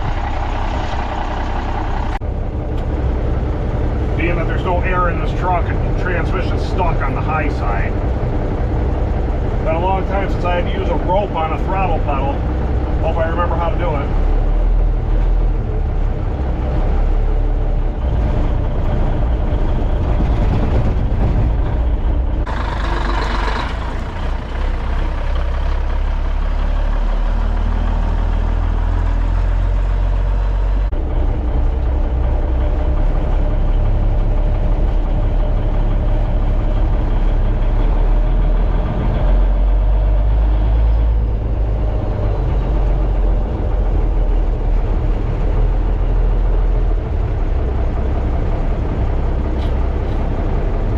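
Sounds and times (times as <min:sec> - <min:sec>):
diesel truck engine revving: 0:00.0 - 0:50.9.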